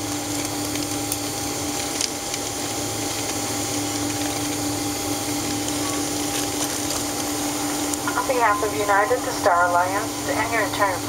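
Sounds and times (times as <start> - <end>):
airplane cabin air rush and hum: 0.0 - 11.0.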